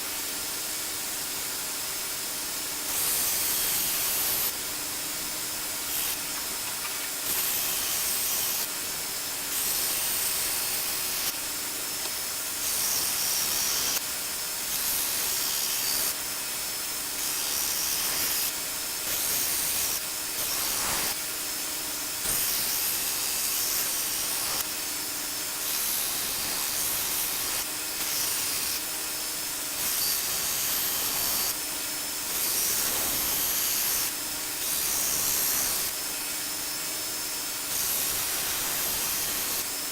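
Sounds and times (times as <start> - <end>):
blade grinding on sander belt: 2.9 - 4.6, 5.8 - 8.7, 9.3 - 21.2, 21.8 - 39.9.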